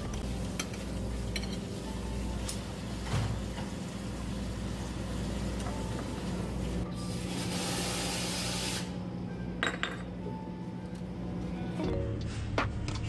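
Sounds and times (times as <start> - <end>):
cafe counter work sounds: 0.0 - 11.8.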